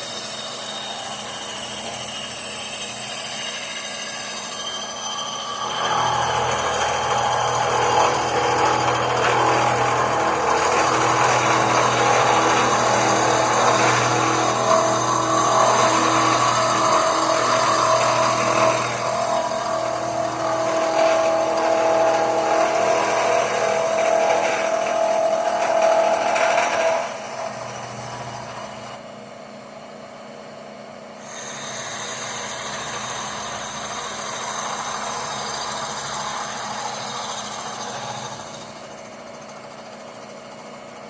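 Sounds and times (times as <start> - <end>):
power tool motor running: 0.0 - 29.0, 31.2 - 40.7.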